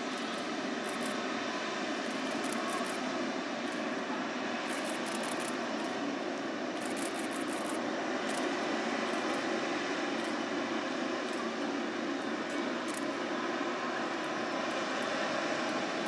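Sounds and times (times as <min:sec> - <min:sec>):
distant jet engine rushing: 0:00.0 - 0:16.0.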